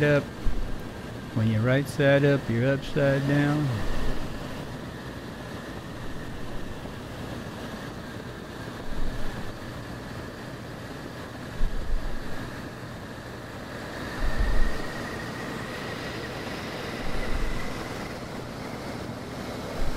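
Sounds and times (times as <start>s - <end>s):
radial engine running: 0.0s - 19.9s
rushing wind: 0.0s - 19.9s
wind buffeting microphone: 0.3s - 1.3s, 2.8s - 10.4s, 11.4s - 12.8s, 13.7s - 19.9s.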